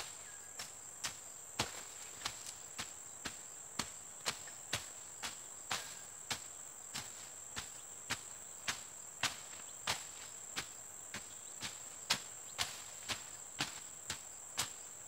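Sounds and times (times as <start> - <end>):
blade chopping through undergrowth: 0.0 - 14.9.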